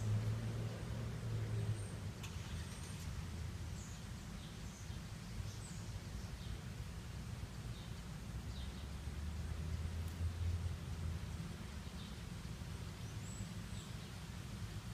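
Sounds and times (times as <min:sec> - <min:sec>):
small birds chirping: 0:00.0 - 0:09.0, 0:11.6 - 0:14.9.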